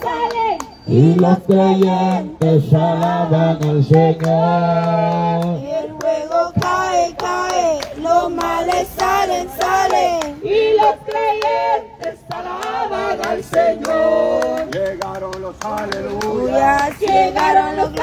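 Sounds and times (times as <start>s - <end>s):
worship singing in high voices: 0.0s - 18.0s
hands clapping: 0.1s - 18.0s.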